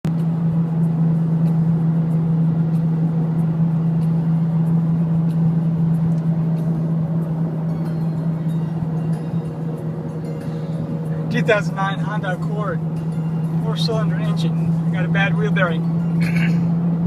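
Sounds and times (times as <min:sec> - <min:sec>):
road rumble: 0:00.0 - 0:17.0
wheel bearing droning hum: 0:00.1 - 0:17.0.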